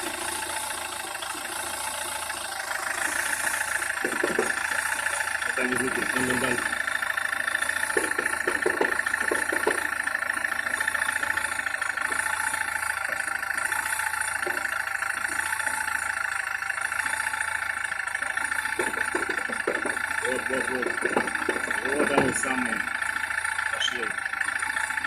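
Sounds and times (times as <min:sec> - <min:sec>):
diesel engine idling: 0:00.0 - 0:25.0
high-pitched hum: 0:01.3 - 0:17.6, 0:18.2 - 0:25.0.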